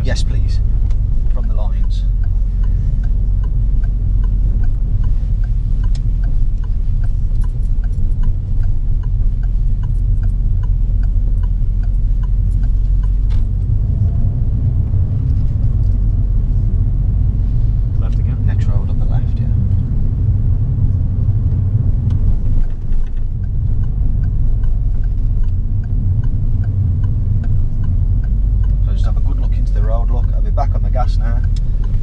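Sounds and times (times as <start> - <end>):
car engine and tyres rumble: 0.0 - 32.0
turn signal ticking: 0.0 - 32.0.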